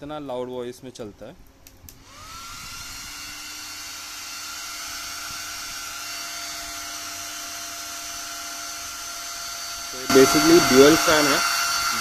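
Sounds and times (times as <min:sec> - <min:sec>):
cooling fan whining: 0:00.0 - 0:12.0.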